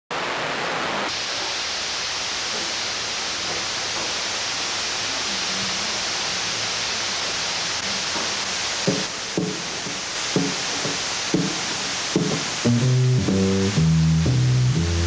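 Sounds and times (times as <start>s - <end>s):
tape hiss: 0.2s - 15.0s.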